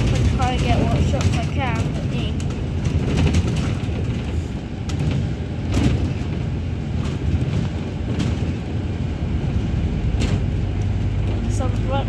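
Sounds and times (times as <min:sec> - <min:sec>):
bus body rattles and knocks: 0:00.0 - 0:12.0
bus engine and road rumble: 0:00.0 - 0:12.0.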